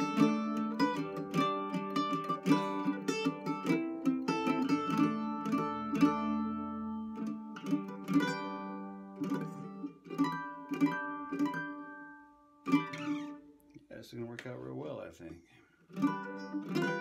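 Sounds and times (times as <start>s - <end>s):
mandolin picked and strummed: 0.0s - 17.0s.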